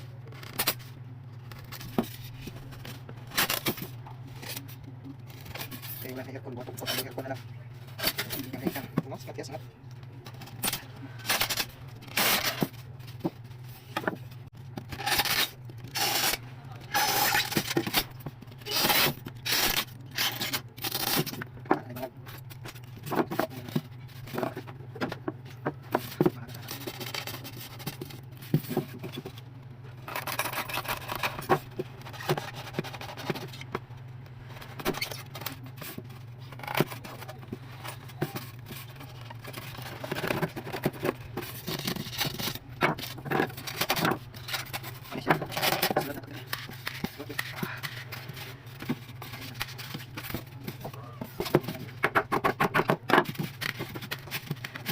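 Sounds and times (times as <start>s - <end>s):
knife scraping plastic: 0.0s - 33.8s, 34.6s - 54.9s.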